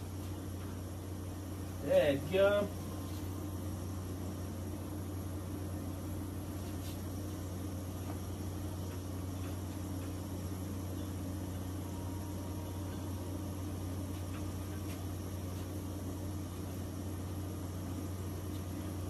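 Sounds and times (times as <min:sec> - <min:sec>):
gas burners humming and hissing: 0:00.0 - 0:19.0.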